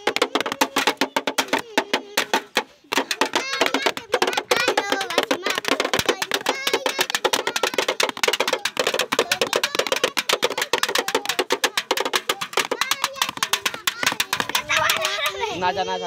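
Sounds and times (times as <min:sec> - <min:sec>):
tin and cardboard drums beaten: 0:00.0 - 0:16.0.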